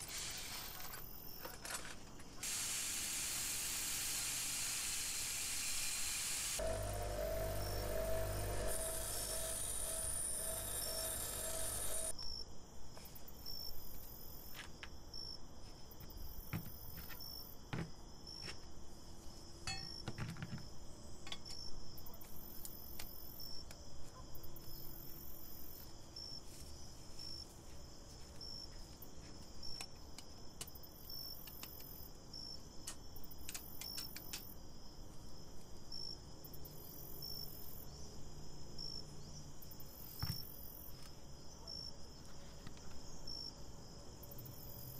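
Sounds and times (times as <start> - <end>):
cricket chirping: 5.6 - 18.6, 19.4 - 44.9.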